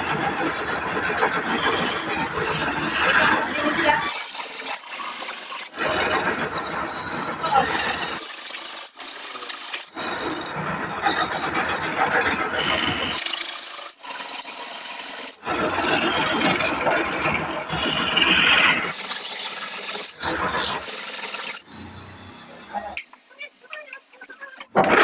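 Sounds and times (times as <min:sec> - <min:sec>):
lathe tool scraping wood: 0:00.0 - 0:21.7, 0:23.0 - 0:25.0.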